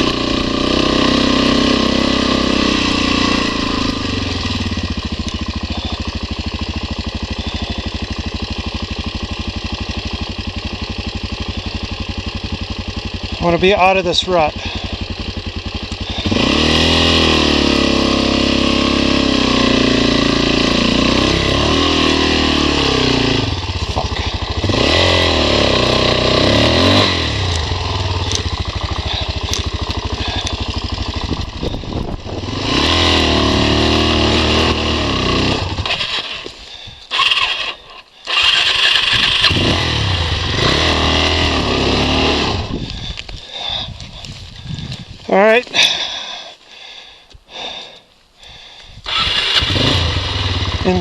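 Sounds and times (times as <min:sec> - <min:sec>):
motorcycle engine revving: 0:00.0 - 0:46.5, 0:48.6 - 0:51.0.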